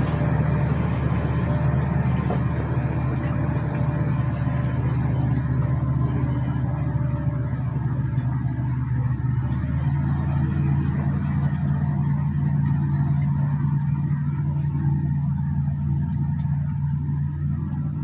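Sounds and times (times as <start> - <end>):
bulldozer diesel engine drone: 0.0 - 18.0.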